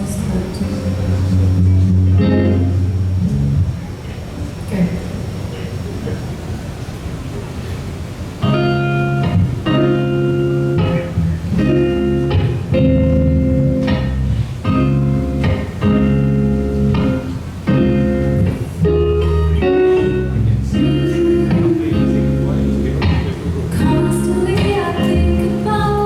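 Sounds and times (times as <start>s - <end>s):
guitar strumming chords: 0.0s - 3.8s, 8.4s - 26.0s.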